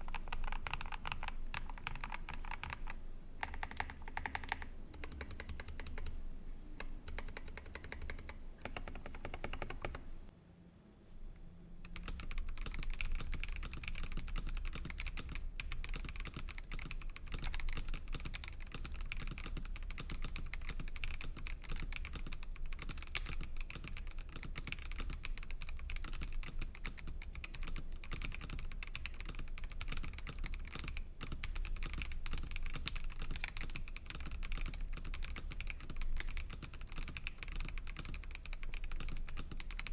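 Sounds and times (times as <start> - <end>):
fast typing on mechanical keyboard: 0.0 - 6.1, 6.8 - 10.1, 11.9 - 39.9.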